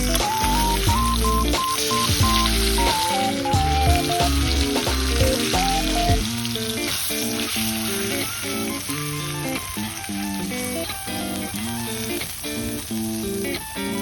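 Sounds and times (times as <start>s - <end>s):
background music: 0.0s - 14.0s
steak sizzling: 0.0s - 14.0s.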